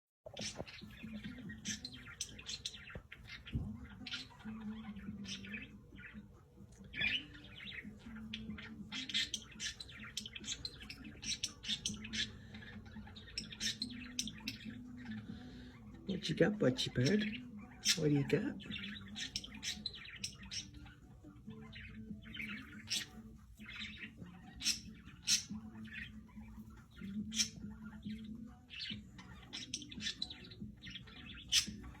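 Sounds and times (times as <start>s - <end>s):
parrot chirping and squawking: 0.3s - 32.0s.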